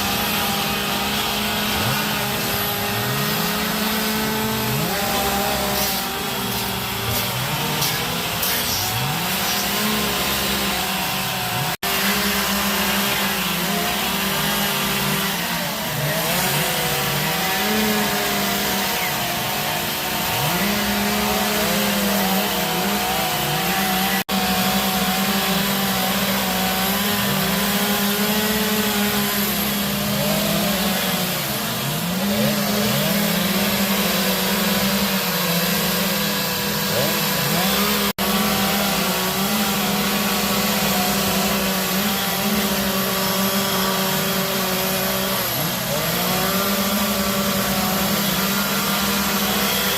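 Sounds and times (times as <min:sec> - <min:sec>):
chainsaws carving wood: 0:00.0 - 0:49.9.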